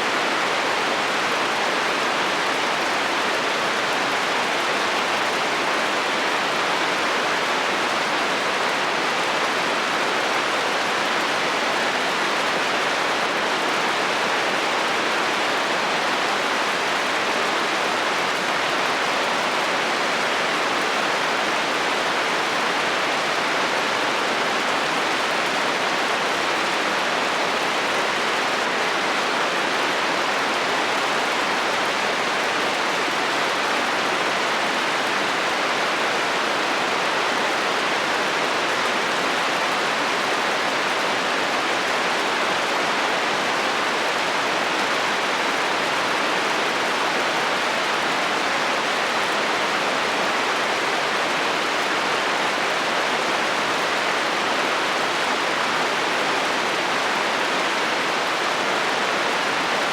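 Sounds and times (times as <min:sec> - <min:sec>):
rain drumming on a metal roof: 0:00.0 - 0:59.9.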